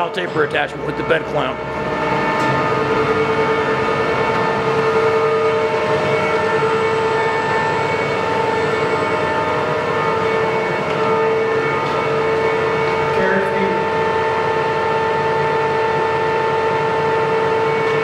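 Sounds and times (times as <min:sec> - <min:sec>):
lathe gear whine: 0:00.0 - 0:18.0.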